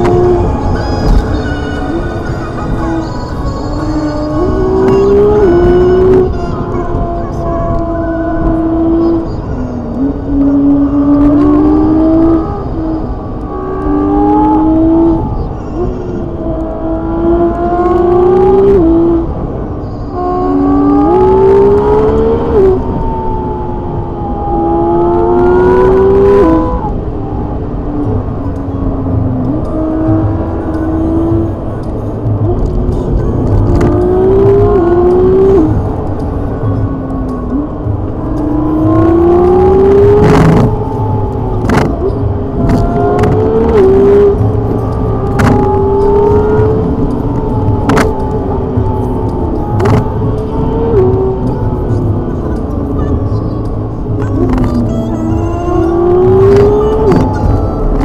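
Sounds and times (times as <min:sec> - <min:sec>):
car engine revving through gears: 0:00.0 - 0:58.0
low road rumble: 0:00.0 - 0:58.0.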